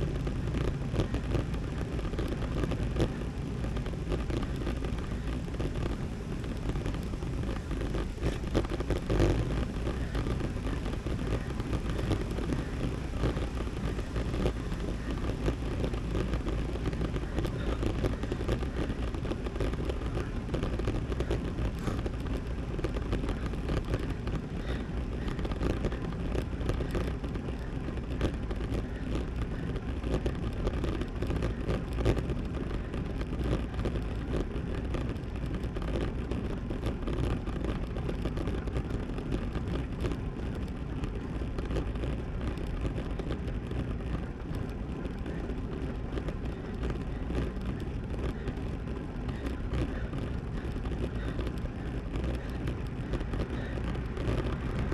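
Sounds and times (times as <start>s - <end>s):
bicycle road noise: 0.0s - 54.9s.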